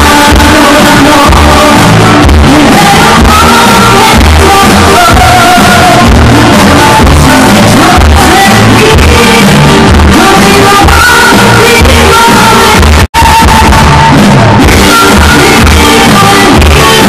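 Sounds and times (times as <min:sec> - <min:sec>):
amplified music over pa: 0:00.0 - 0:17.0
steady bass beat: 0:00.0 - 0:17.0
woman singing into microphone: 0:00.0 - 0:17.0.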